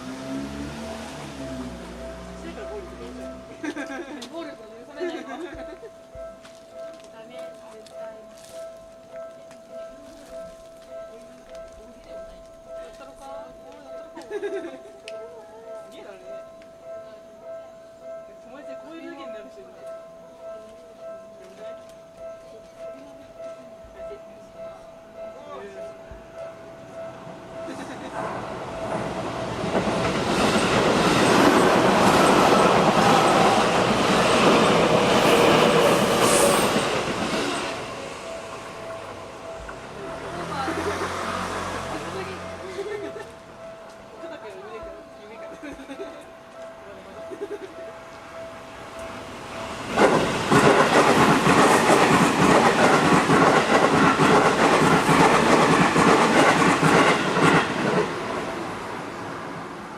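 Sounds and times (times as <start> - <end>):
level crossing warning bell: 0.0 - 59.0
train passing: 0.0 - 59.9.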